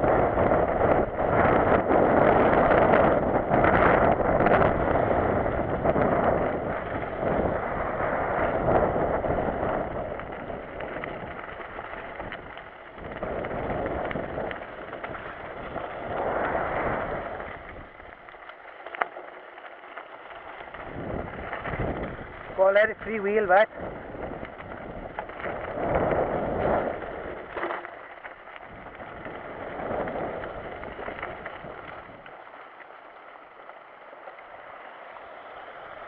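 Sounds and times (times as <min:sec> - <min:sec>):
wind buffeting microphone: 0:00.0 - 0:18.4, 0:20.5 - 0:32.4
tyre rumble: 0:00.0 - 0:32.6
bike rattling and knocking: 0:00.0 - 0:33.0.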